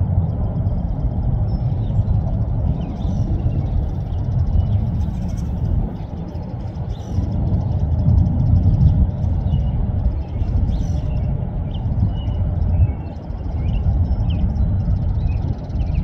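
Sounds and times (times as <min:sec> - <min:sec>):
low uneven rumble: 0:00.0 - 0:16.0
small birds chirping: 0:00.2 - 0:16.0.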